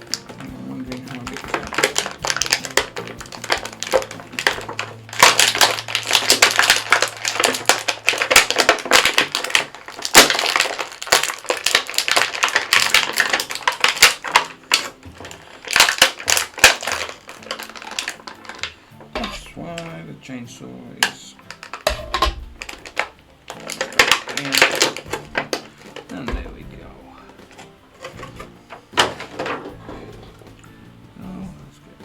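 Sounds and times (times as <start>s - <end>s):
plastic packaging crackling: 0.0s - 20.1s, 21.0s - 30.5s.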